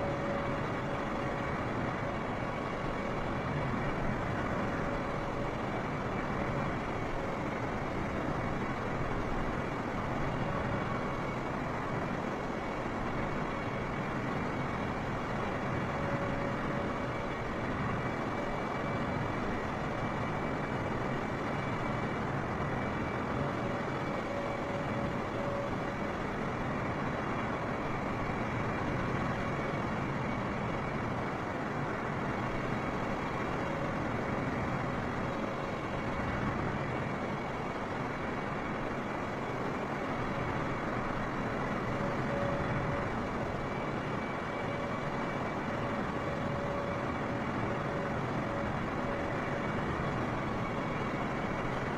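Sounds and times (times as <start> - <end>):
jet engine noise inside cabin: 0.0 - 51.9.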